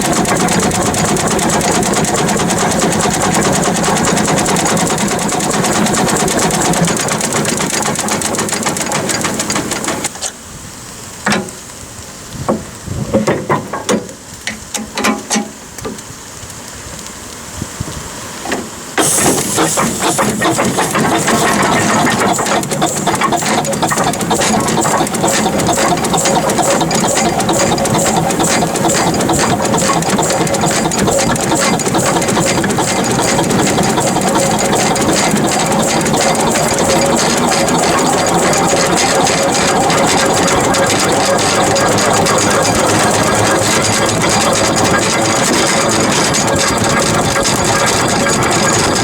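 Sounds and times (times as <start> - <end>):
steam tractor engine clatter: 0.0 - 49.0.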